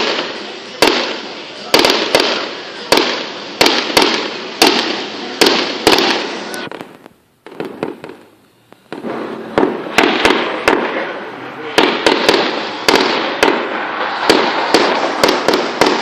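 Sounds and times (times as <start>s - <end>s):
faint firework cracks: 0.0s - 16.0s
fireworks bangs echoing: 0.0s - 16.0s.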